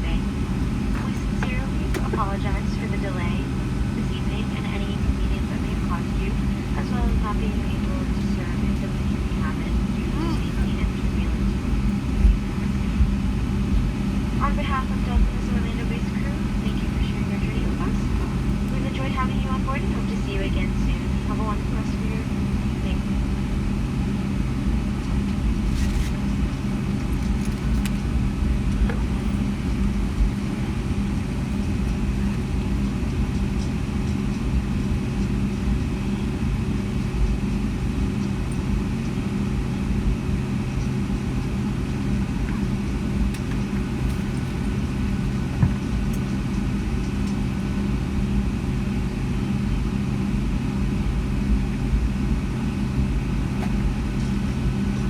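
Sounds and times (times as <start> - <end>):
aircraft engines idling in cabin: 0.0 - 55.0.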